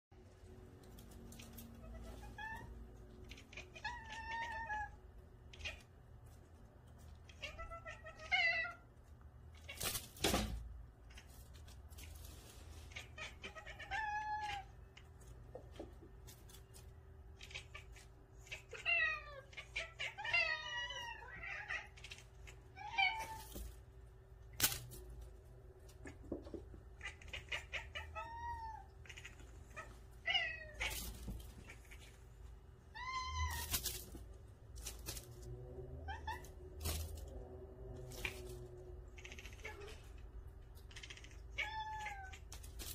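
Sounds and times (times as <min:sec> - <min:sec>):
cats chattering and chirping: 0:00.2 - 0:42.9.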